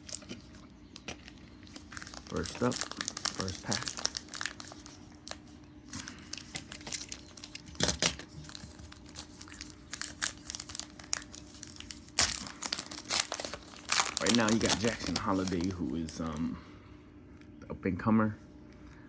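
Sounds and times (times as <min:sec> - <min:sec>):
wrapper tearing and crinkling: 0:00.0 - 0:16.5.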